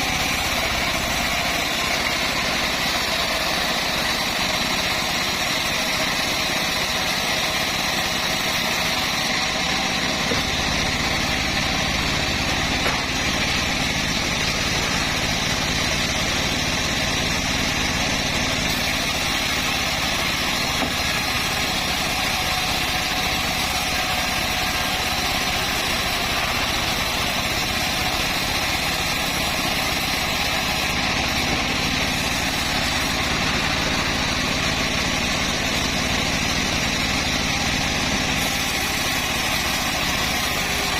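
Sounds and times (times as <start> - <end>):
bandsaw mill engine drone: 0.0 - 40.9.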